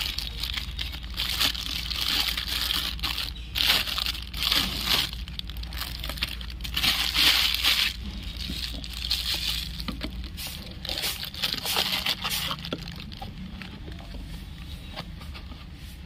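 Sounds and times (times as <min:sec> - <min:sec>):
plastic wrapper crinkling: 0:00.0 - 0:14.2.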